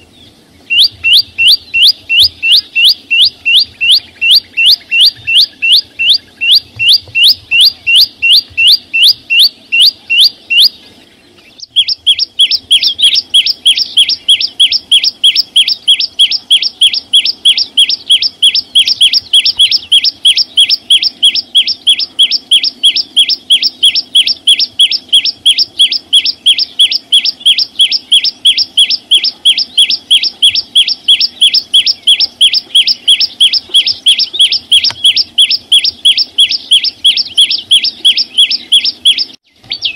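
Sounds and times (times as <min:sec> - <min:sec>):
songbird singing high notes: 0:00.0 - 0:39.9.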